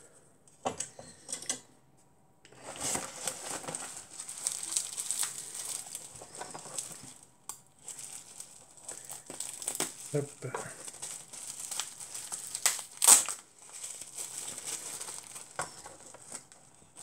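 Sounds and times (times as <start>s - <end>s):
packaging wrap crinkling: 2.5s - 17.0s.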